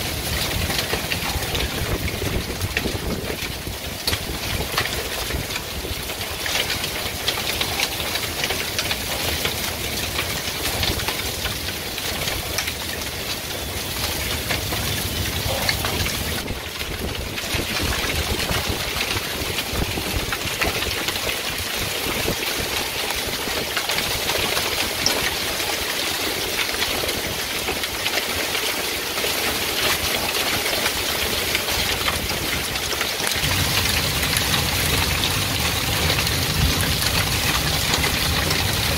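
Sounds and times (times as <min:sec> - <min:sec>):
hail and rain on a porch: 0:00.0 - 0:38.9.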